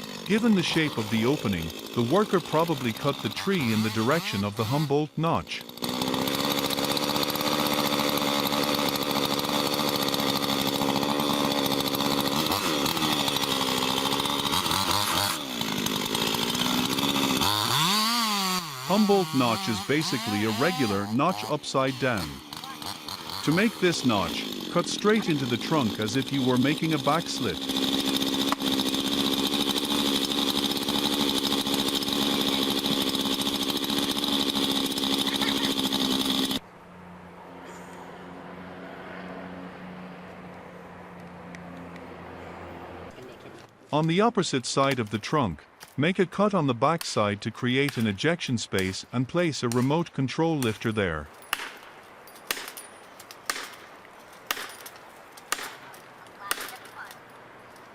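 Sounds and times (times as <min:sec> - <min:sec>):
chainsaw cutting wood: 0:00.0 - 0:36.6, 0:46.4 - 0:57.9.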